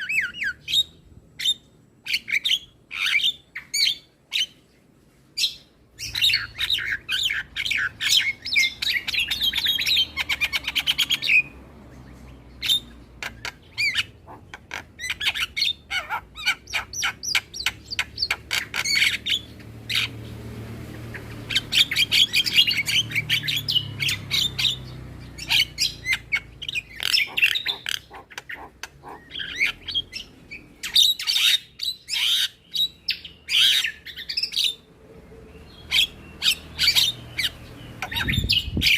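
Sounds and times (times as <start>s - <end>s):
bird singing chattering notes: 5.4s - 34.9s, 35.6s - 38.9s.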